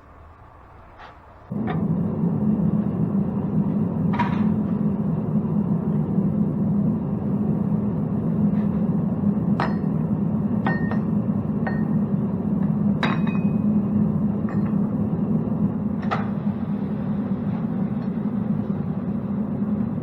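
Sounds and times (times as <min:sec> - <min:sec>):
furnace burner roaring: 0:00.0 - 0:20.0.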